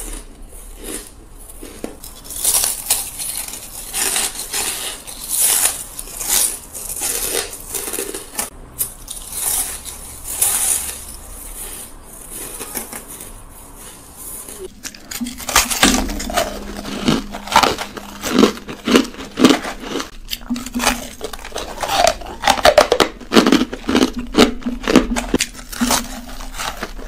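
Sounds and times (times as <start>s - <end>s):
chewing crunchy shaved ice: 0.0s - 27.0s.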